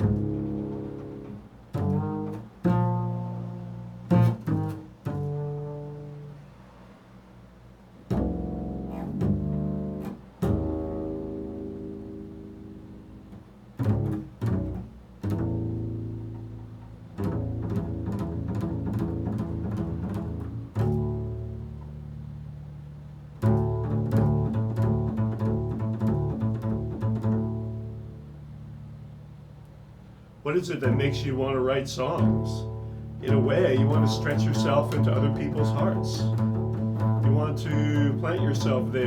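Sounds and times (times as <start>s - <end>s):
low string instrument notes: 0.0s - 39.0s.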